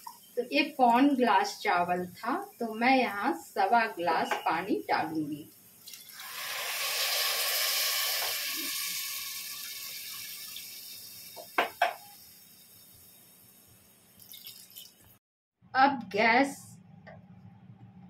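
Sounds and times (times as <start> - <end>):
water hissing and bubbling in a pot: 0.0 - 15.2.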